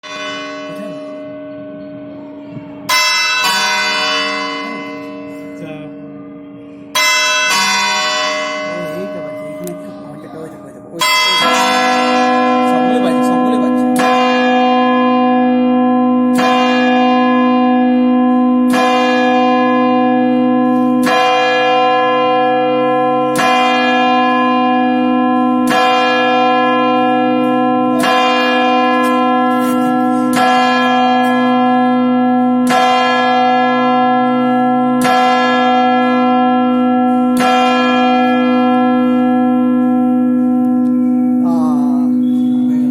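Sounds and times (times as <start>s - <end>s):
church bell tolling: 0.0s - 42.9s.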